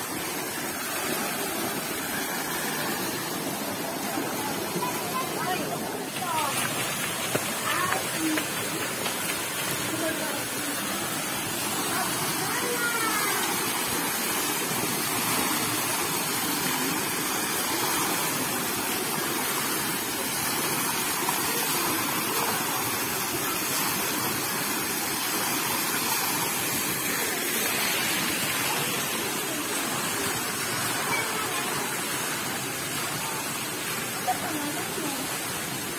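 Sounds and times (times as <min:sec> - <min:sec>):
falling water rushing: 0:00.0 - 0:35.9.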